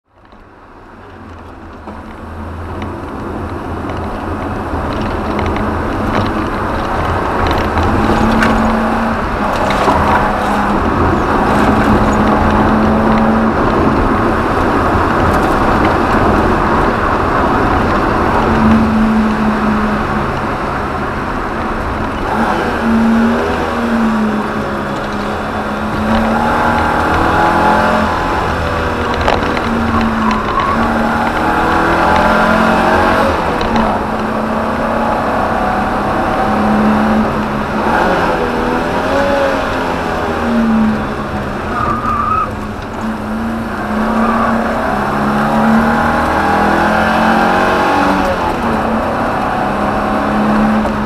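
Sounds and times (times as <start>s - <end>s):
car engine under load: 0.0s - 51.0s
wind and road noise: 0.0s - 51.0s.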